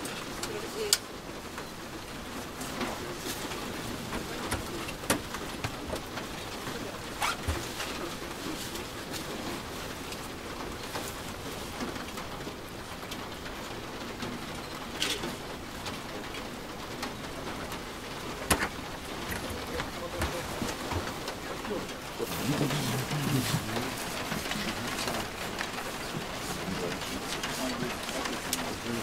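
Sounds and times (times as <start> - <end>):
knocks and clicks of people moving: 0.0 - 29.0
steady low hiss: 0.0 - 29.0.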